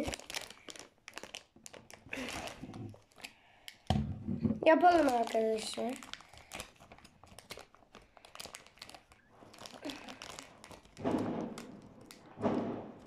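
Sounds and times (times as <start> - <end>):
plastic chip packet crinkling: 0.0 - 3.9, 4.6 - 13.0.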